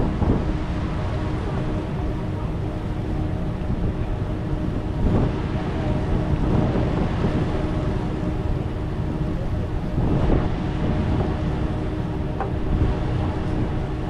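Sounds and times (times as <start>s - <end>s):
ferry engines droning: 0.0s - 14.0s
wind on microphone: 0.0s - 14.0s.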